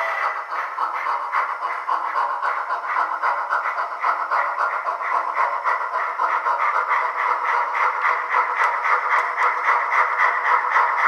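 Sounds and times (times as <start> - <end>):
simulated steam locomotive chuffing: 0.0 - 11.0.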